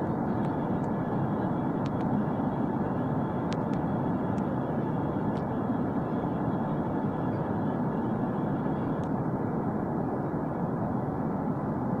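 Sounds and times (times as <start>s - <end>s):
faint high steady tone: 0.0s - 12.0s
jet aircraft engines rushing: 0.0s - 12.0s.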